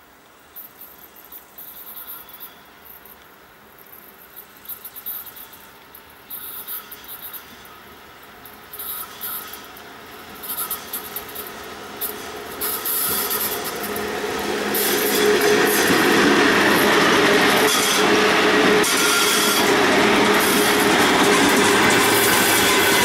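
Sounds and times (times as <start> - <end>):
electric locomotive hauling freight train: 0.0 - 23.0.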